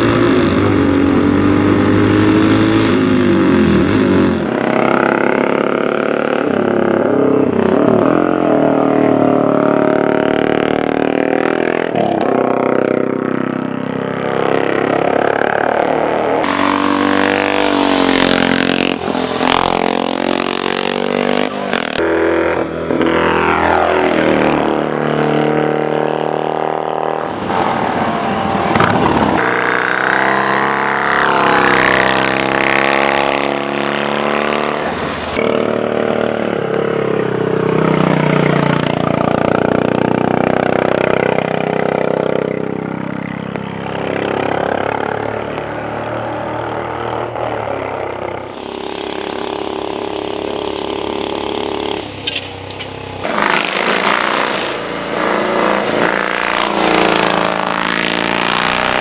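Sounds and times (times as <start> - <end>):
racing motorcycles revving past: 0.0 - 59.0.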